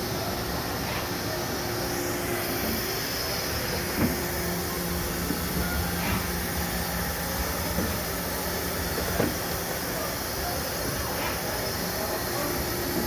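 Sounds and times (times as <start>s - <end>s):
coolant hissing: 0.0s - 13.0s
lathe humming: 0.0s - 13.0s.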